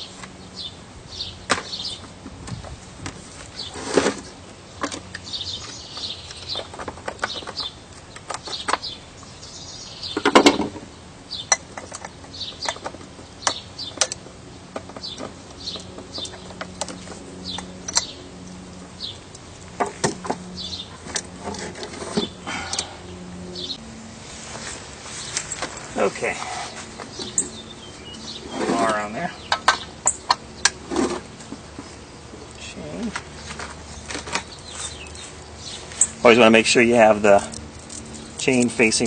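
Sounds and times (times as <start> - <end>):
small birds chirping: 0.0 - 2.7, 4.6 - 23.8, 24.6 - 39.0.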